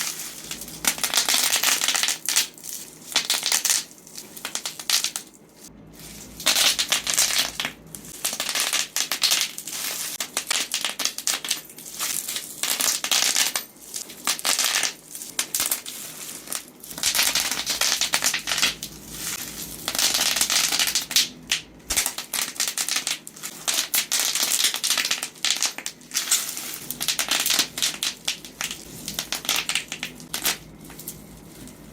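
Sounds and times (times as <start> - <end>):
bubble wrap popping: 0.0 - 5.4, 6.0 - 31.9.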